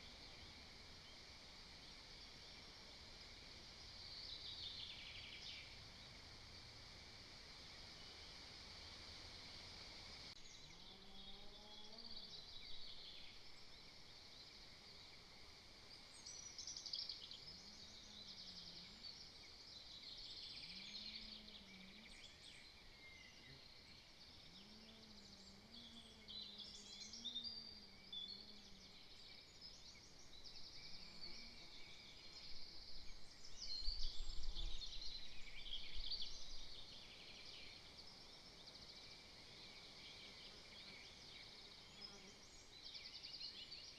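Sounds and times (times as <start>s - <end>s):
songbirds singing: 0.0s - 6.6s, 10.3s - 43.9s.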